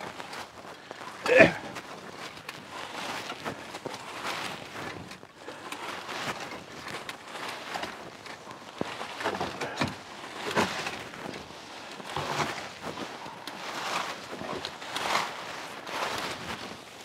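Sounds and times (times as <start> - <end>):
dry leaves rustling and crunching: 0.0 - 17.0.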